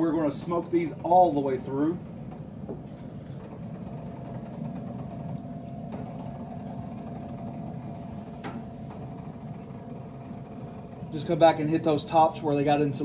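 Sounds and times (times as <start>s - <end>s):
grill fan humming: 0.0s - 13.0s.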